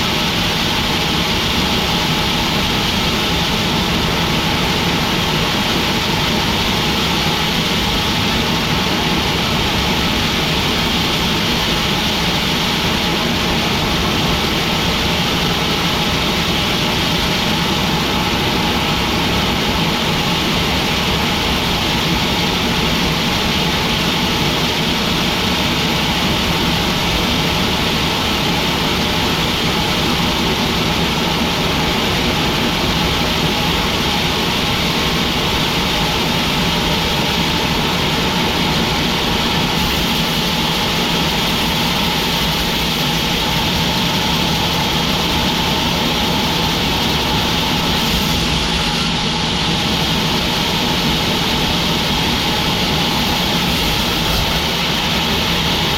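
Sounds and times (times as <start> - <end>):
sawmill machinery drone: 0.0 - 55.9.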